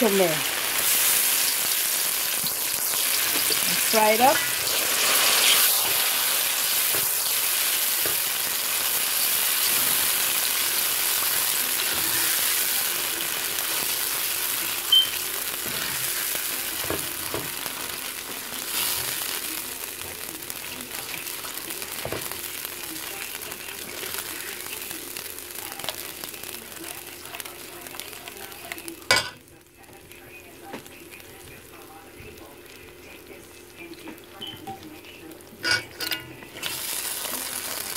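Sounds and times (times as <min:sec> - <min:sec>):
food sizzling in hot oil: 0:00.0 - 0:29.6, 0:32.6 - 0:37.9.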